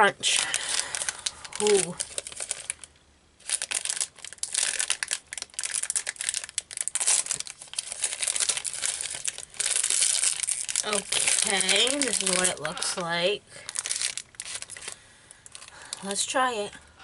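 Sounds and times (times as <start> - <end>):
plastic wrapper crinkling: 0.0 - 16.7.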